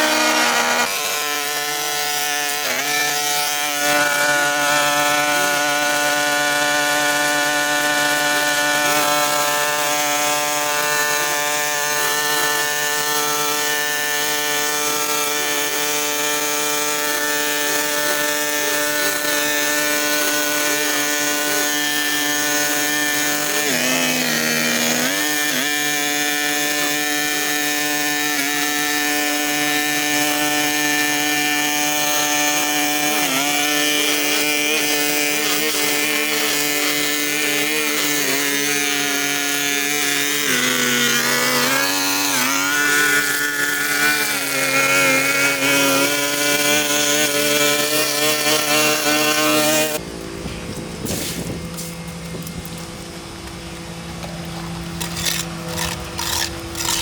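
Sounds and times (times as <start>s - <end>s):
two-stroke power tool engine: 0.0s - 57.0s.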